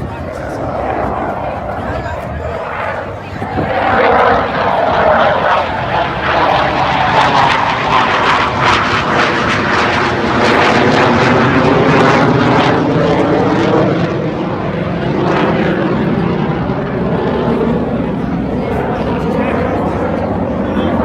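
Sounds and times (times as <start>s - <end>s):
plane engine flying past: 0.0s - 21.0s.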